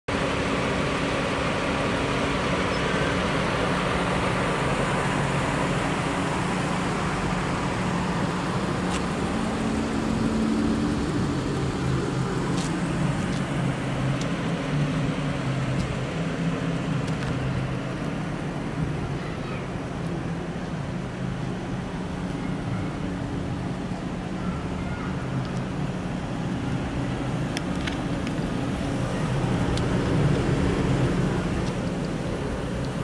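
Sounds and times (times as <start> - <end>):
road traffic hum: 0.1 - 33.0.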